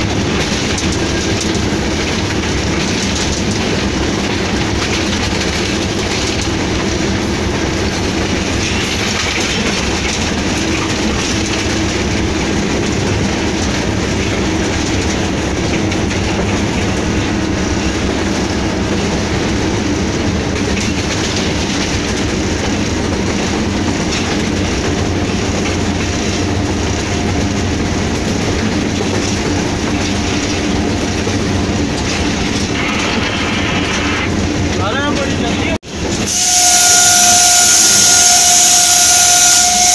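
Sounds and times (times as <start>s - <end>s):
train wheels clacking on track: 0.0s - 39.9s.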